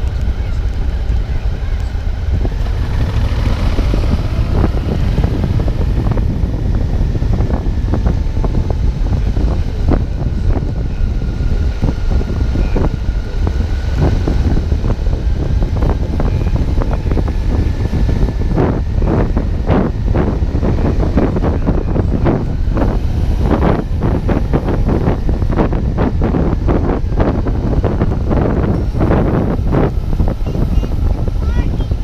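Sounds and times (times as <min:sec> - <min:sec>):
motorcycle engine running: 0:00.0 - 0:32.0
wind rumbling on microphone: 0:00.0 - 0:32.0.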